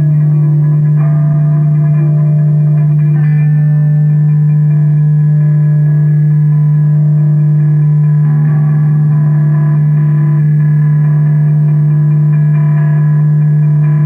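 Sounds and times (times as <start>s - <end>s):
low droning tone: 0.0s - 14.0s.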